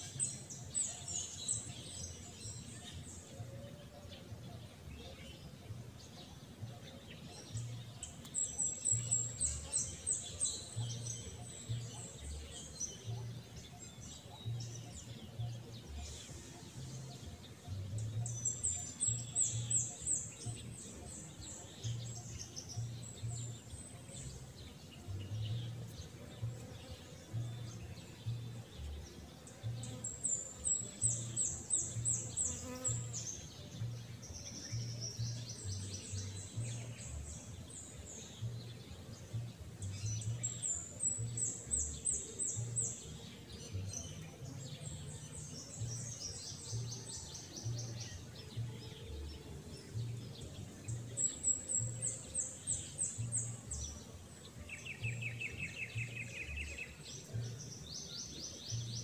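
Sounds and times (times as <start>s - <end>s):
birds twittering: 0.0s - 59.0s.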